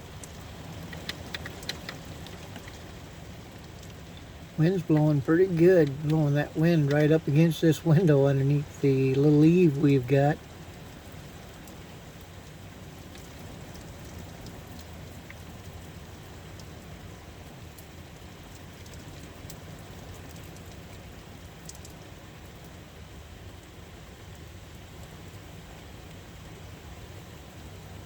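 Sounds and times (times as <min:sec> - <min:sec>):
raindrops ticking on window: 0:00.0 - 0:28.0
steady rain falling: 0:00.0 - 0:28.0
wind: 0:00.0 - 0:28.0.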